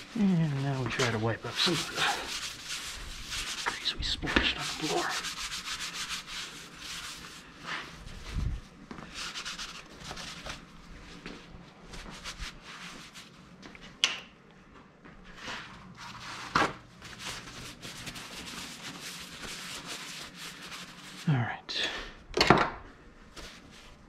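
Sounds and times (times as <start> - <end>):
towel rubbing on concrete floor: 0.0 - 13.4, 15.3 - 21.3, 23.3 - 24.0.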